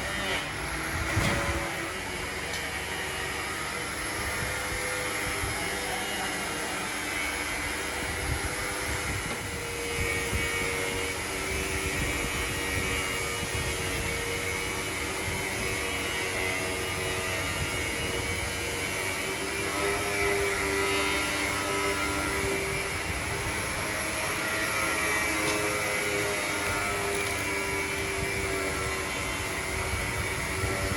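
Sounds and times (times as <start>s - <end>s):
workshop machinery droning: 0.0s - 30.9s.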